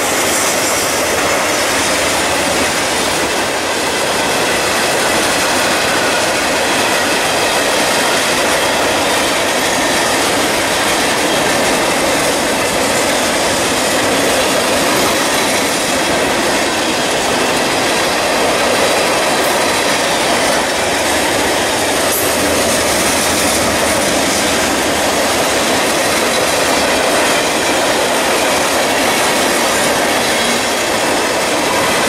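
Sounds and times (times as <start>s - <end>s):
freight train wheels rumbling and rattling: 0.0s - 32.0s.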